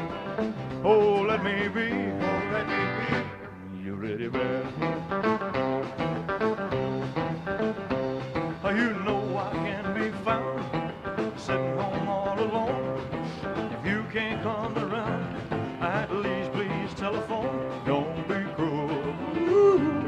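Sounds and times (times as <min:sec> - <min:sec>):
live rock and roll band: 0:00.0 - 0:20.0.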